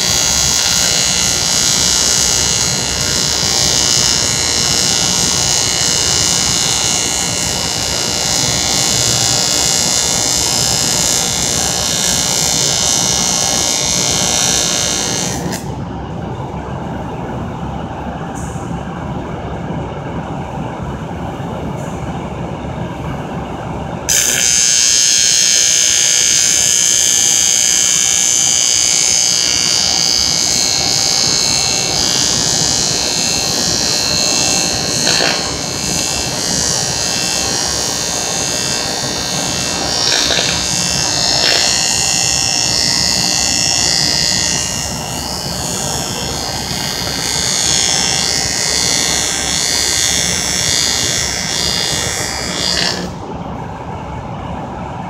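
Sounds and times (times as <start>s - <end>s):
welding arc buzzing hiss: 0.0s - 15.7s, 24.1s - 53.2s.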